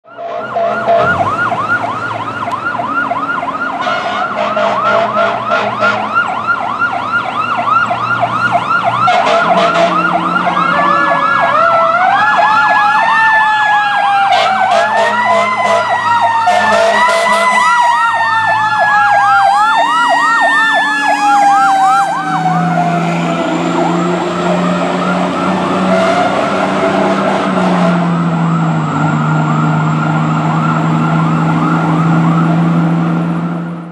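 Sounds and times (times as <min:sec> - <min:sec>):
siren yelping: 0:00.0 - 0:33.8
diesel engine drone: 0:00.0 - 0:33.9
siren wailing up and down: 0:00.0 - 0:33.9.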